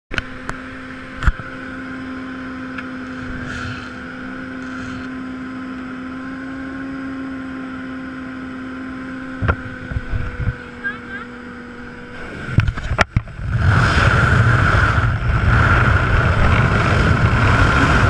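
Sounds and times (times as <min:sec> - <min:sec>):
light aircraft engine droning: 0:00.1 - 0:18.0.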